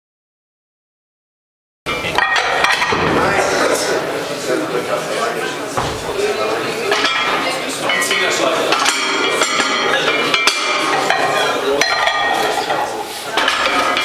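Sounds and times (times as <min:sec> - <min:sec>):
murmur of voices: 0:01.9 - 0:14.0
weight plates clanking: 0:01.9 - 0:14.0.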